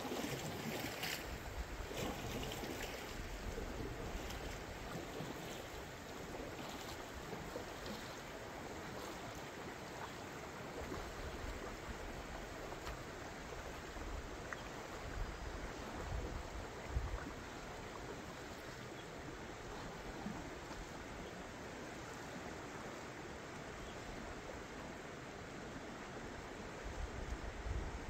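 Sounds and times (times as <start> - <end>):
river flowing: 0.0 - 28.0.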